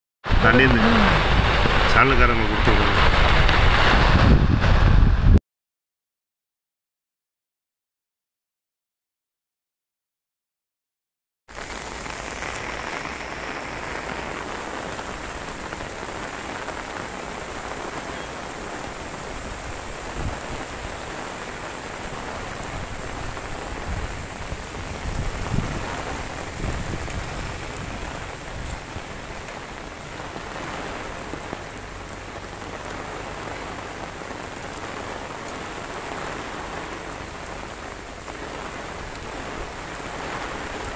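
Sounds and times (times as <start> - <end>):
heavy rain falling: 0.2 - 5.4, 11.5 - 40.9.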